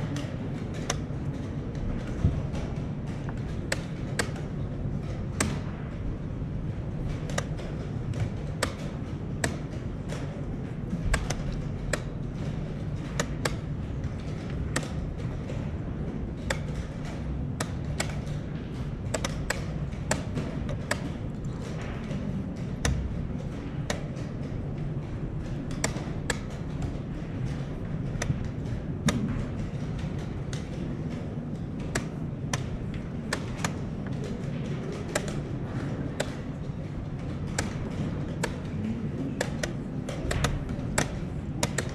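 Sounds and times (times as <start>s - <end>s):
chess clock buttons slapped: 0.1s - 5.9s, 7.0s - 24.8s, 25.4s - 41.9s
chess pieces knocking on board: 6.9s - 41.9s.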